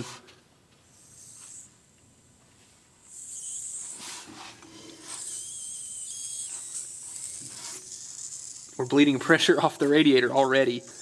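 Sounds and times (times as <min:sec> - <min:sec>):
radiator pressure hissing: 0:00.8 - 0:11.0.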